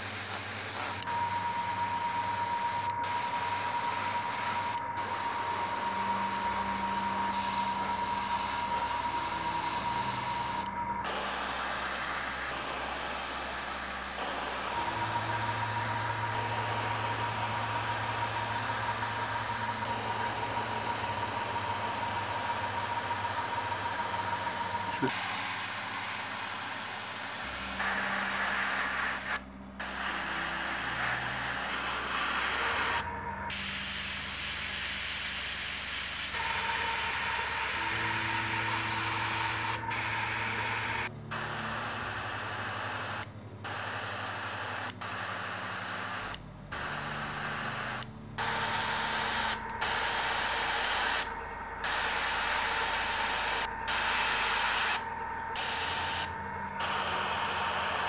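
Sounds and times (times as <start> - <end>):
airbrush spraying hiss: 0.0 - 55.0, 55.6 - 58.0
low steady hum: 0.0 - 58.0.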